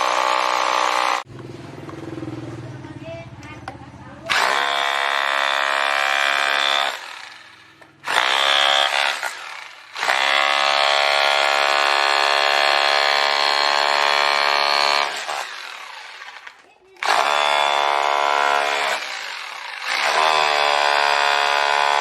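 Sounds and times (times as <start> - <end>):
rotary hammer drill running: 0.0 - 1.3, 4.3 - 22.0.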